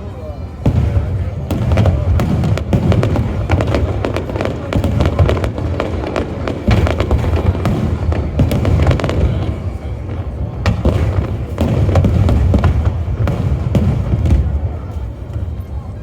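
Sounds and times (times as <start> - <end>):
fireworks bursts and cracks: 0.4 - 16.0.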